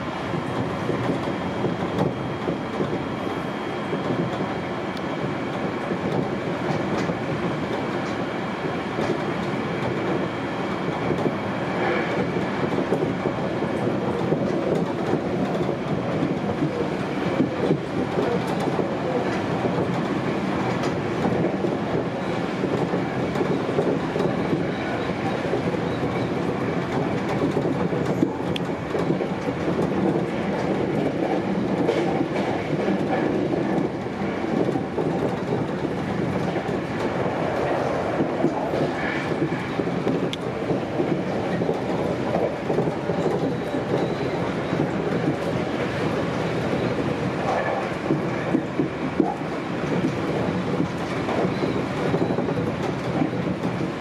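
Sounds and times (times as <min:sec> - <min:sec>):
rail joint clicks: 0:00.0 - 0:54.0
train wheels rumbling on rails: 0:00.0 - 0:54.0.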